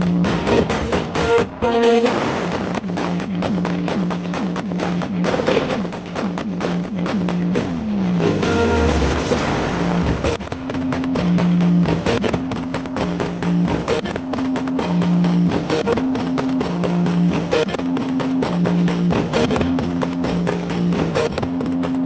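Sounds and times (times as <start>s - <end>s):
fast steady drum hits: 0.0s - 22.0s.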